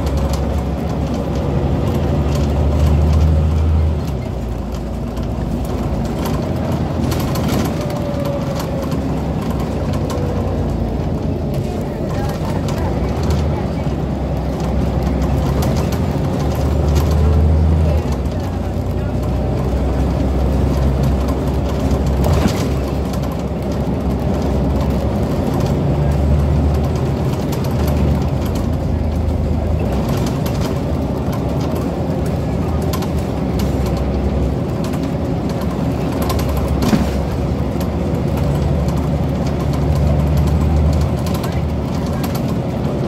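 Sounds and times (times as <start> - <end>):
bus body knocks and rattles: 0.0 - 43.0
bus diesel engine droning: 0.0 - 43.0.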